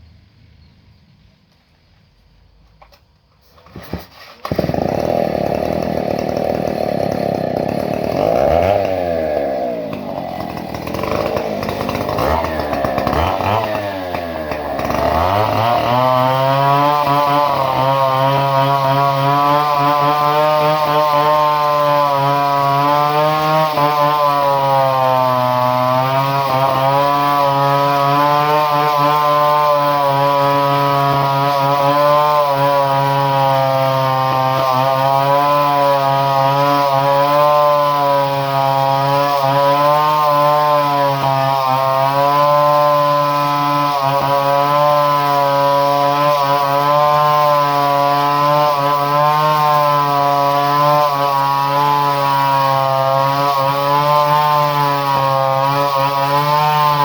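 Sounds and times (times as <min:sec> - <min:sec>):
two-stroke chainsaw engine revving: 0:03.8 - 0:57.0.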